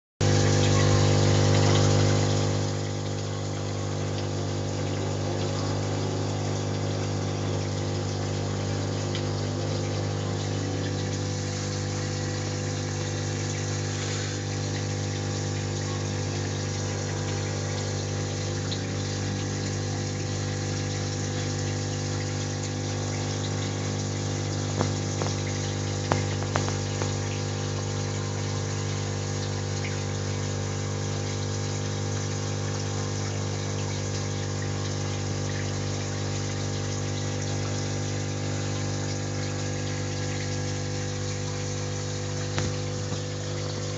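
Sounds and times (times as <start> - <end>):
aquarium pump humming: 0.2 - 43.9
water running: 0.2 - 43.9.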